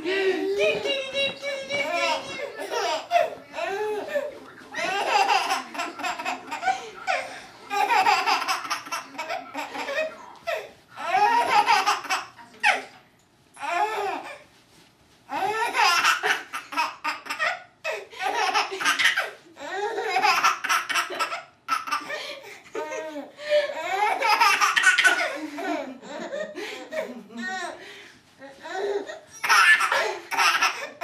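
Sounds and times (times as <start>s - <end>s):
baby laughing: 0.3s - 12.8s, 15.3s - 27.7s, 28.8s - 31.0s.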